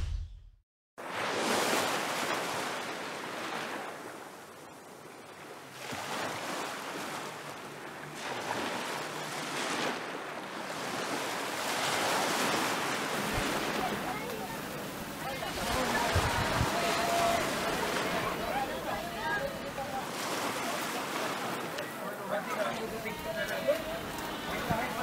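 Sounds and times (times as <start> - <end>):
sea waves washing in: 1.0 - 25.0.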